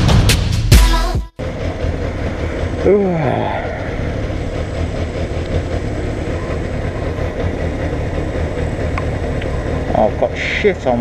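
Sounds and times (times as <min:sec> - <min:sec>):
motorcycle engine idling: 0:01.4 - 0:11.0.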